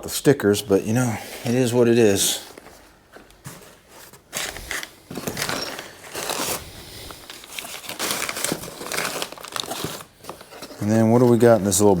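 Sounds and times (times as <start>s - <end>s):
packaging rustling: 1.5s - 12.0s.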